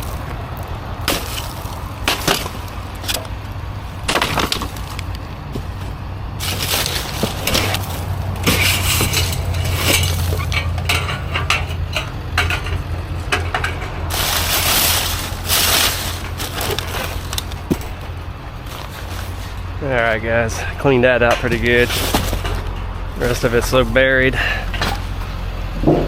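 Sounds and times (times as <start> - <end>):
junk clattering in a dumpster: 0.0 - 26.0
steady low hum: 0.0 - 26.0.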